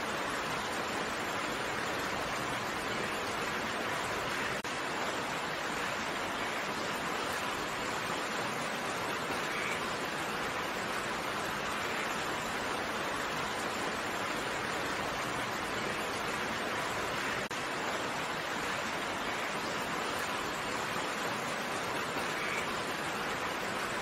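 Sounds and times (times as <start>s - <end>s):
dense rain falling: 0.0s - 24.0s.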